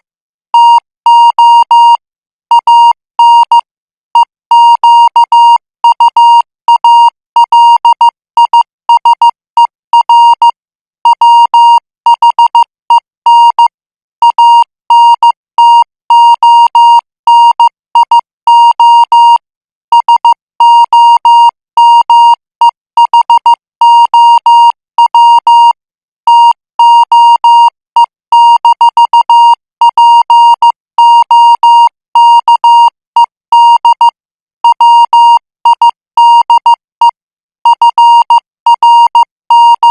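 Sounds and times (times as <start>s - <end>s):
morse code beeps: 0.6s - 39.9s.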